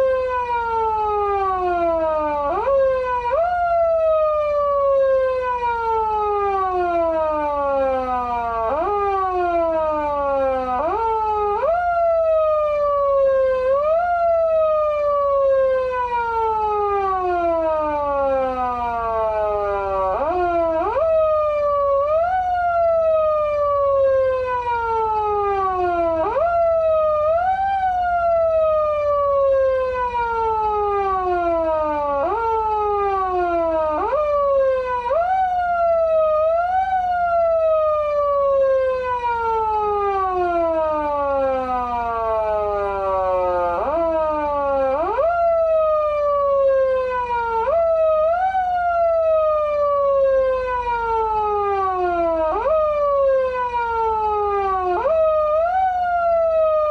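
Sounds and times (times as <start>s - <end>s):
police siren wail: 0.0s - 56.9s.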